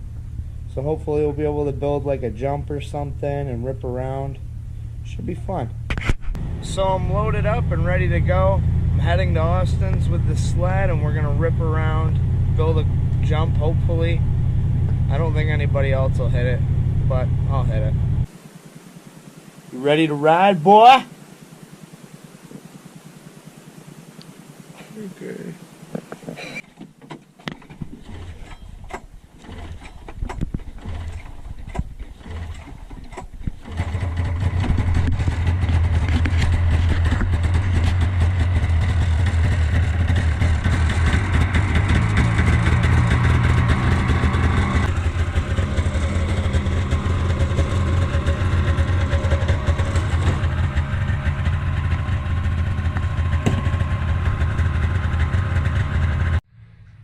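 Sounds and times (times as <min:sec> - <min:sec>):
small off-road vehicle engine: 0:00.0 - 0:57.0.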